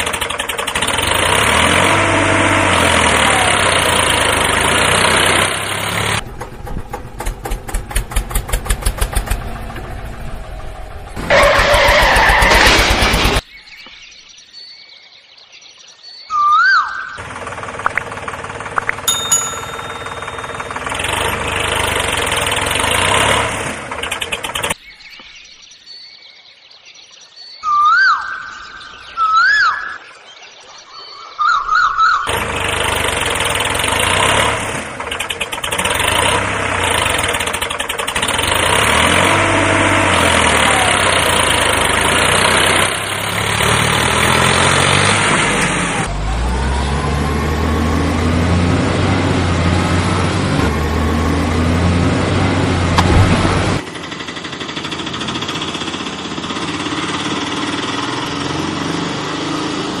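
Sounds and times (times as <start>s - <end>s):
heavy engine running and revving: 0.0s - 13.4s, 17.2s - 24.8s, 32.3s - 60.0s.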